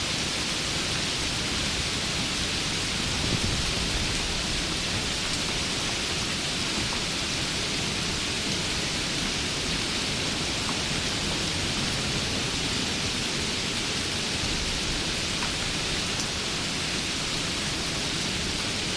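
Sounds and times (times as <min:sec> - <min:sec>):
steady rain hiss: 0:00.0 - 0:18.9.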